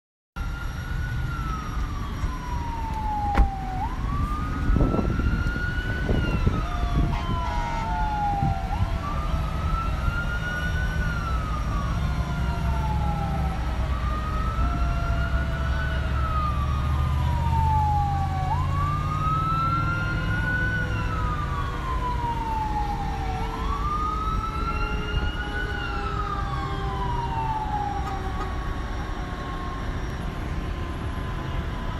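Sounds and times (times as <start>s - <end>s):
emergency siren wailing: 0.4s - 31.9s.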